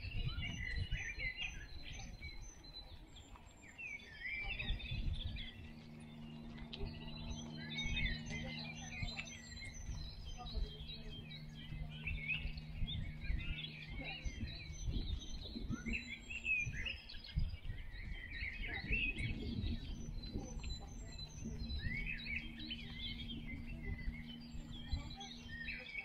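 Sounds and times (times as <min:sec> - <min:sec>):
low rumble: 0:00.0 - 0:26.0
songbirds chirping and twittering: 0:00.0 - 0:26.0
steady low hum: 0:00.0 - 0:26.0.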